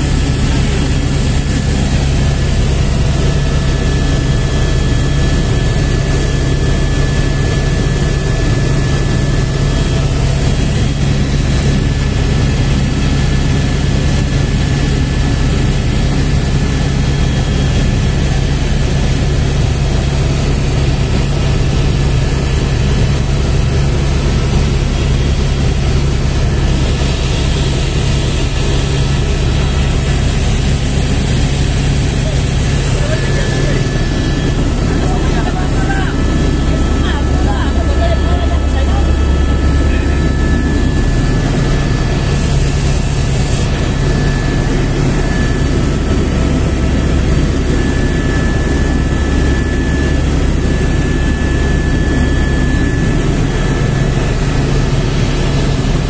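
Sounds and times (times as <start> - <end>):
helicopter engine and rotor drone: 0.0 - 56.0
thin steady whine: 0.0 - 56.0.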